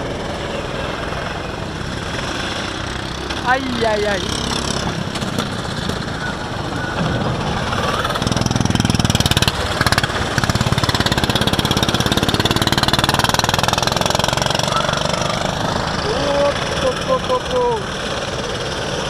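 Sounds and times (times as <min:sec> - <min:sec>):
go-kart engine running: 0:00.0 - 0:19.0.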